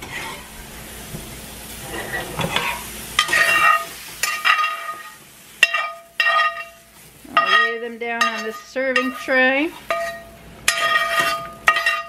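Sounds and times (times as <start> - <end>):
spatula scraping cast-iron skillet: 0.0 - 0.6, 1.7 - 12.0
chicken sizzling in a frying pan: 0.0 - 12.0.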